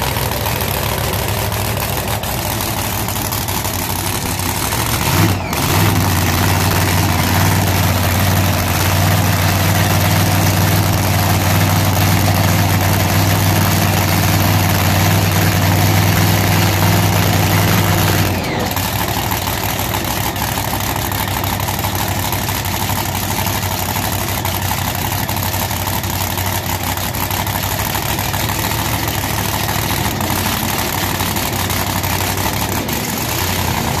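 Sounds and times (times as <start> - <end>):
drag car engine running: 0.0 - 34.0.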